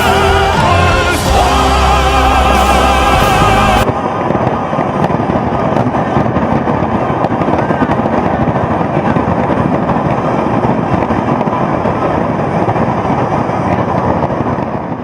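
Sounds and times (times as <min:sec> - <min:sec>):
fireworks crackling rumble: 0:00.0 - 0:15.0.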